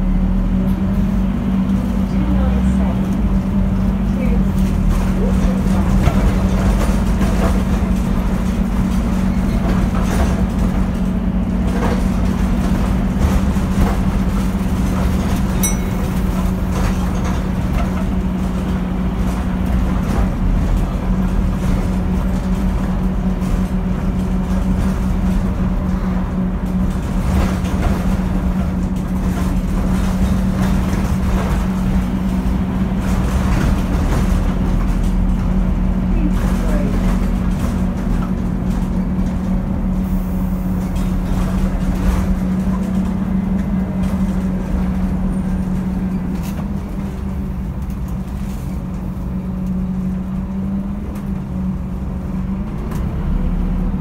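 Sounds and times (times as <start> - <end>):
bus engine humming: 0.0 - 54.0
road rumble: 0.0 - 54.0.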